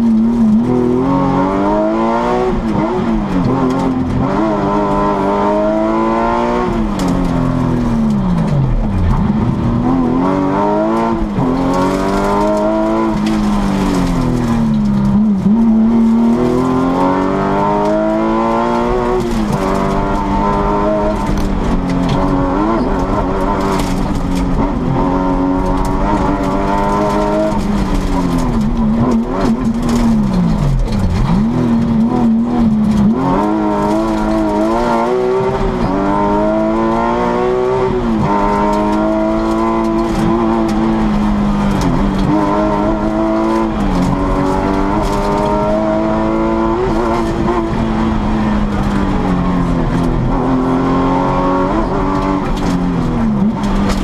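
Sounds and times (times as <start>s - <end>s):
car engine revving through gears: 0.0s - 54.0s.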